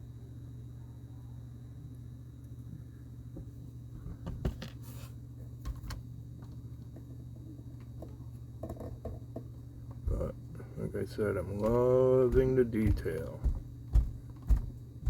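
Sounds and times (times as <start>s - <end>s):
steady low room hum: 0.0s - 15.0s.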